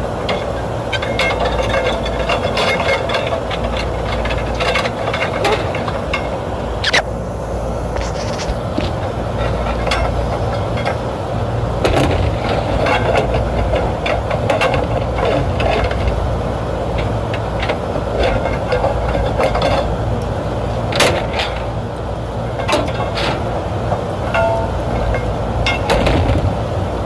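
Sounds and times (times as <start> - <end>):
low machinery hum: 0.0 - 27.0.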